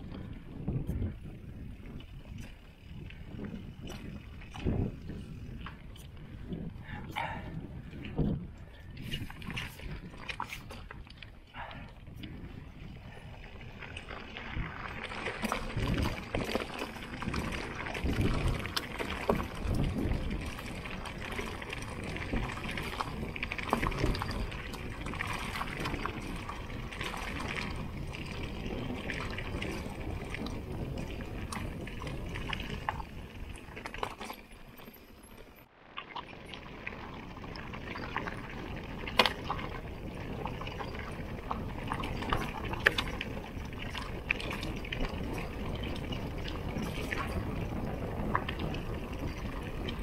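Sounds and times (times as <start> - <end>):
bike clicking and rattling: 0.0 - 50.0
tyre and wind noise: 0.0 - 50.0.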